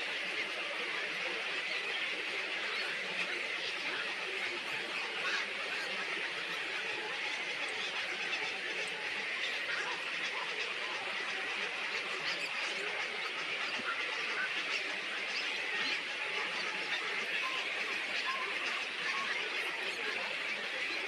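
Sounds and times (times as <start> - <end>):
flock of birds chattering: 0.0 - 21.0.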